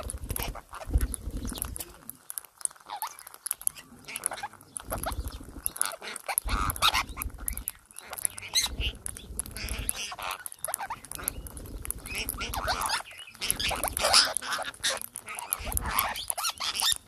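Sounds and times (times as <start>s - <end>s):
beaks tapping on floor: 0.0s - 17.0s
parakeets chirping: 0.0s - 17.0s.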